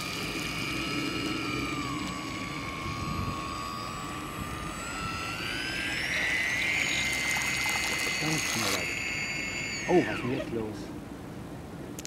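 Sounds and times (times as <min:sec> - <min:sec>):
toy boat motor whining: 0:00.0 - 0:10.8.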